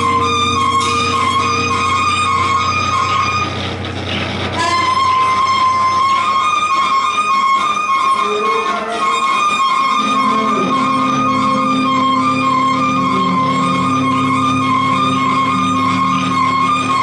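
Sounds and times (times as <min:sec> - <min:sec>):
high sustained pulsing tones: 0:00.0 - 0:17.0
low drone: 0:00.0 - 0:17.0.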